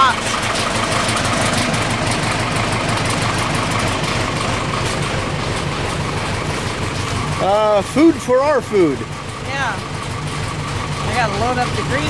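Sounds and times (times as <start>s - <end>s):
loader engine idling: 0.0s - 12.0s.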